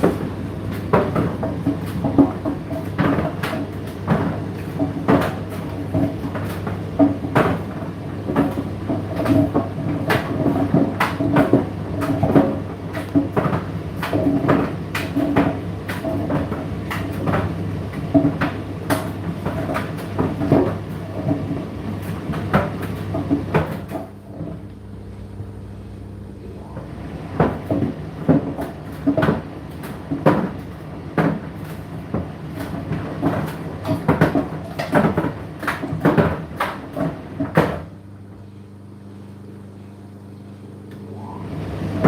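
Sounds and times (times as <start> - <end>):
laundry tumbling in drum: 0.0 - 24.5, 26.8 - 37.9
tumble dryer motor hum: 0.0 - 42.0.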